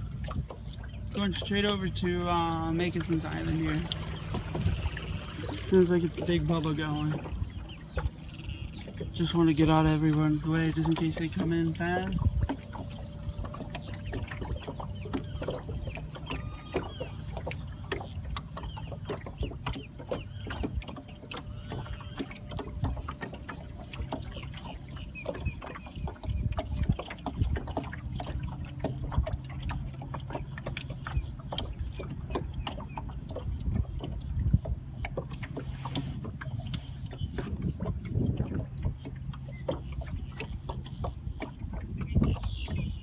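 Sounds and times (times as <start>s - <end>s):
electric boat motor humming: 0.0s - 43.0s
water splashing against hull: 0.0s - 43.0s.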